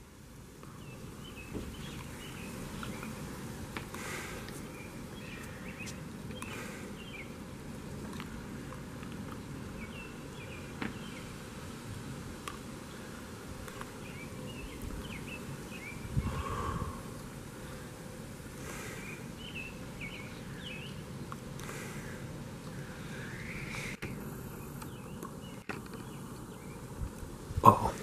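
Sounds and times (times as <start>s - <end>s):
low background noise: 0.0s - 28.0s
birds chirping: 0.6s - 11.6s, 12.4s - 28.0s.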